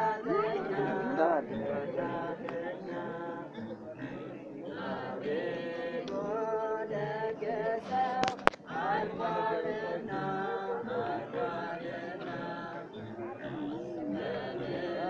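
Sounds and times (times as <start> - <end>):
person singing a hymn: 0.0 - 15.0.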